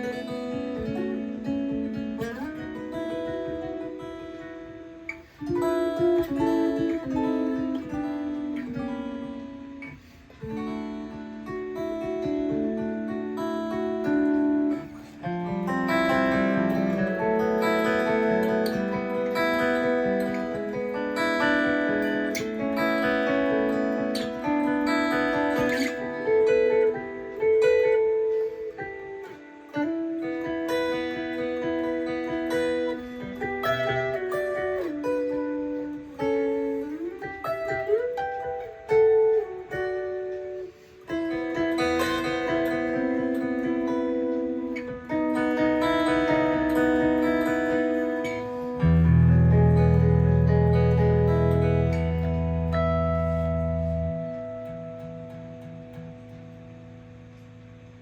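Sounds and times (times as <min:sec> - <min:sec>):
clean-toned guitar melody: 0:00.0 - 0:58.0.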